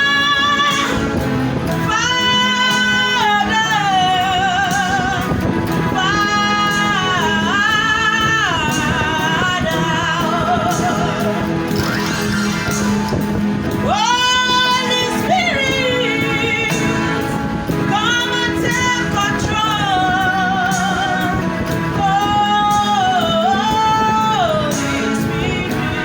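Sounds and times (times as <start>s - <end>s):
instrumental accompaniment: 0.0s - 26.0s
person singing gospel: 0.0s - 26.0s.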